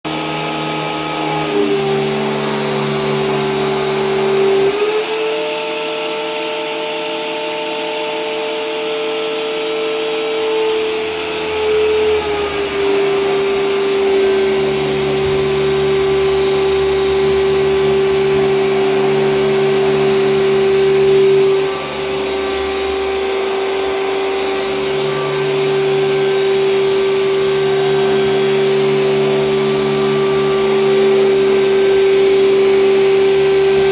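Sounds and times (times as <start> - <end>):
electric motor whining: 0.1 - 33.9.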